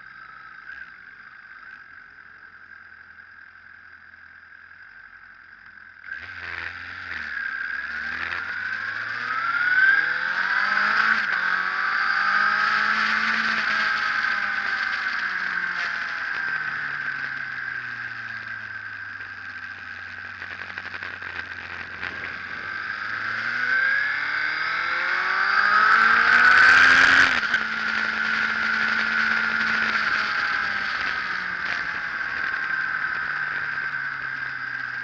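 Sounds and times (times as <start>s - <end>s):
motorcycle engine revving: 6.0s - 35.0s.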